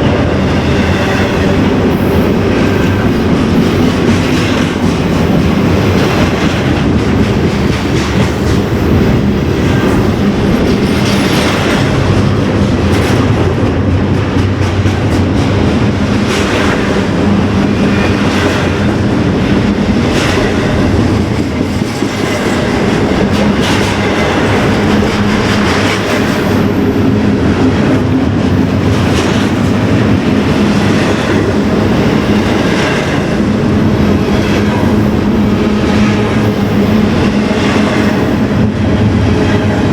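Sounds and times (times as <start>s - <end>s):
train wheels clacking: 0.0s - 39.9s.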